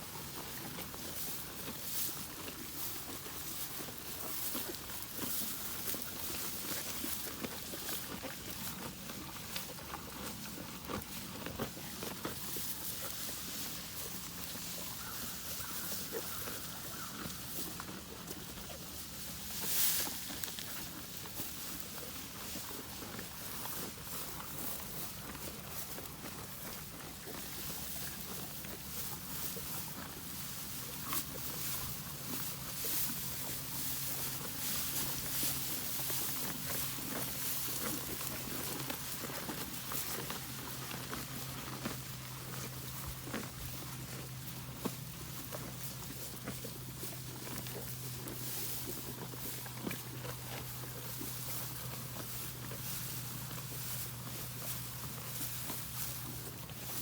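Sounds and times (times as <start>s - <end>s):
cattle chewing hay: 0.0s - 57.0s
hay crunching and rustling: 0.0s - 57.0s.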